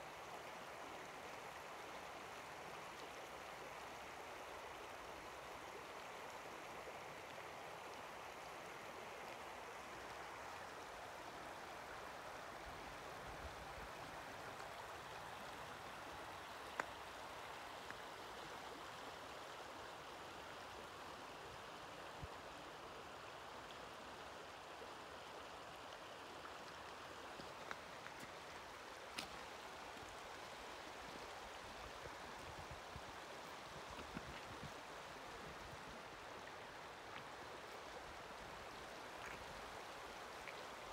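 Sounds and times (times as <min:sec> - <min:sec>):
river water babbling over cobbles: 0:00.0 - 0:40.9.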